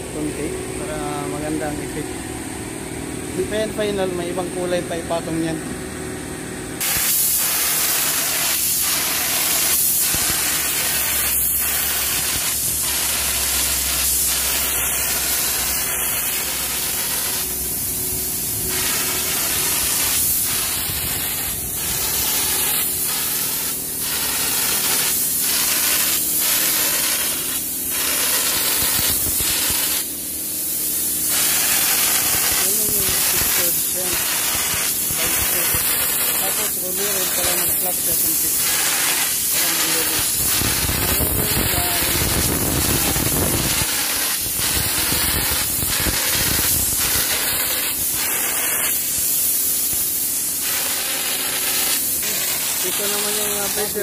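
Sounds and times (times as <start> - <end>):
spray gun hissing: 6.8 - 54.0.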